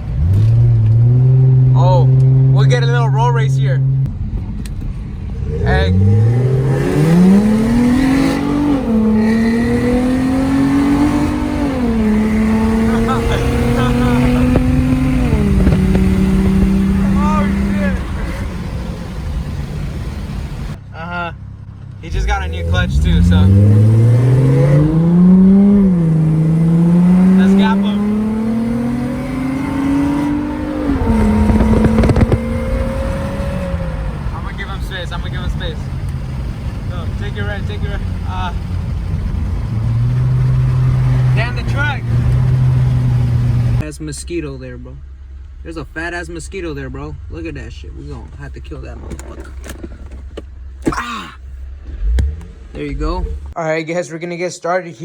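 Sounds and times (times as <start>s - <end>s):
car engine accelerating hard: 0.0s - 20.8s, 22.0s - 50.8s, 51.6s - 53.6s.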